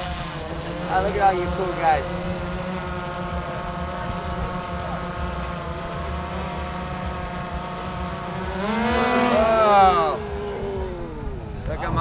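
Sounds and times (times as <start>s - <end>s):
drone propellers whining: 0.0s - 12.0s
wind rumbling on microphone: 0.0s - 12.0s.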